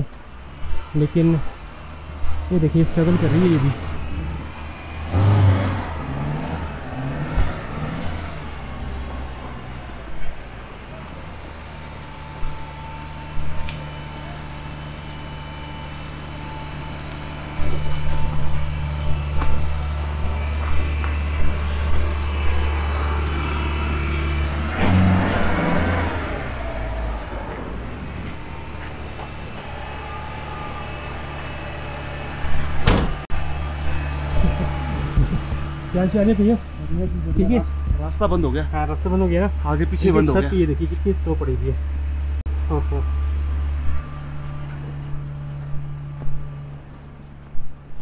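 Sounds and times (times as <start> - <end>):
car engine labouring: 0.0 - 48.0.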